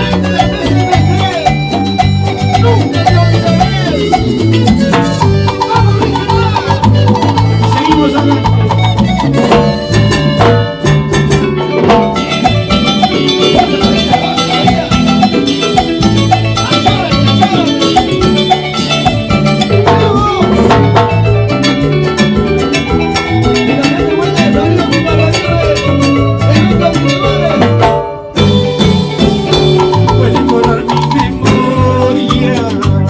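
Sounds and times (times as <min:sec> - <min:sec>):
latin dance band playing: 0:00.0 - 0:33.0.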